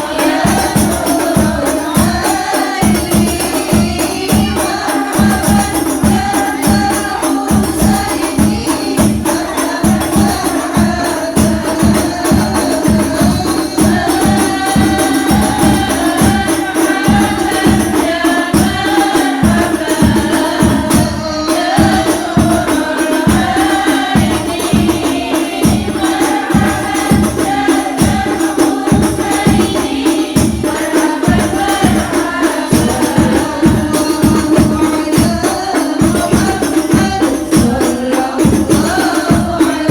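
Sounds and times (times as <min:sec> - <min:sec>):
frame drums beating: 0:00.0 - 0:39.9
group singing in unison: 0:00.0 - 0:39.9.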